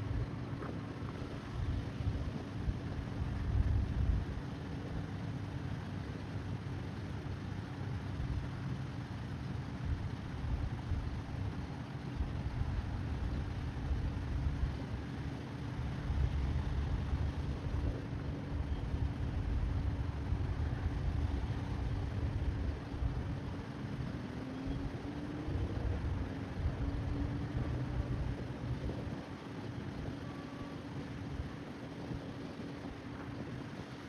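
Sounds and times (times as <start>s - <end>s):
faint steady whine: 0.0s - 34.0s
freight train low rumble: 0.0s - 34.0s.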